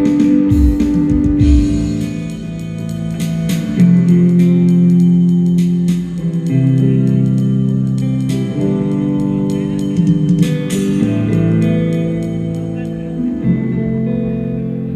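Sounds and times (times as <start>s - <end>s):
melody of long held notes: 0.0s - 14.9s
plucked guitar accompaniment: 0.0s - 14.9s.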